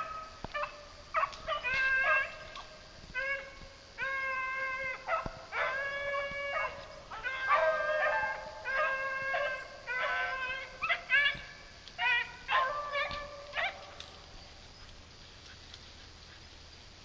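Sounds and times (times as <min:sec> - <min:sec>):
hounds baying: 0:00.0 - 0:16.5.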